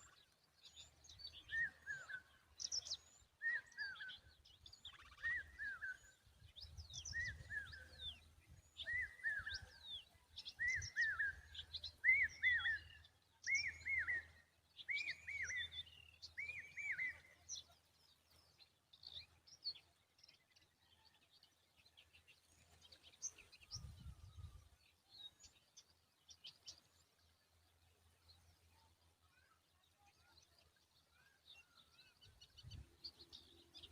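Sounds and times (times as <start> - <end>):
faint bird chirps: 0.0 - 33.9.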